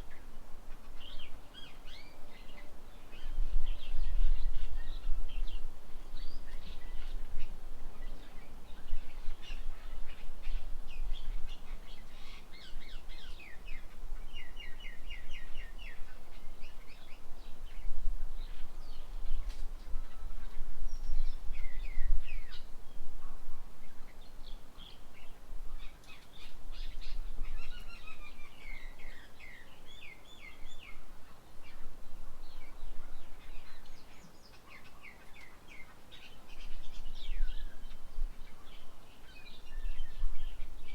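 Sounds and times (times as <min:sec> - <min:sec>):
small birds chirping: 0:00.0 - 0:23.0, 0:23.8 - 0:40.9.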